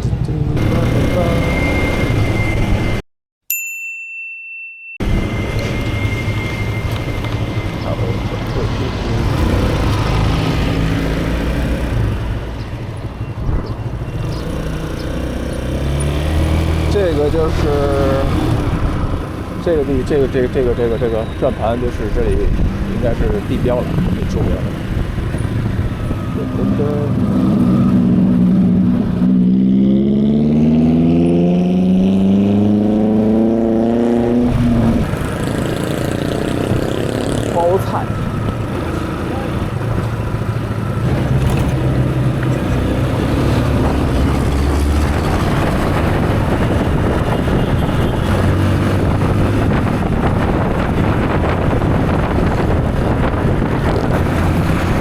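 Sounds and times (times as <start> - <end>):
motorbike engine accelerating: 0.0 - 2.9, 5.1 - 55.0
wind and road rush: 0.0 - 3.0, 5.0 - 55.0.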